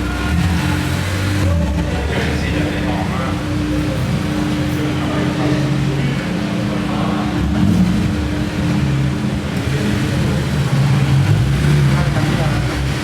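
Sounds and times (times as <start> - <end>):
car engines humming: 0.0 - 13.0.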